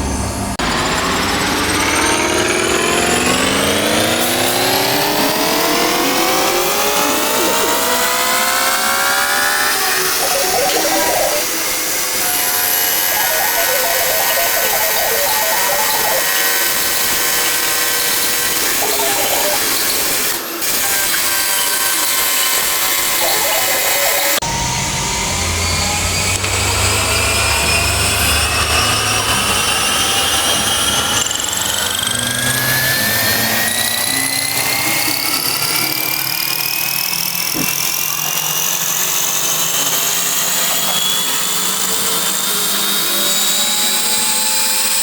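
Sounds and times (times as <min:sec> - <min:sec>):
electric motor whine: 0:00.0 - 0:45.0.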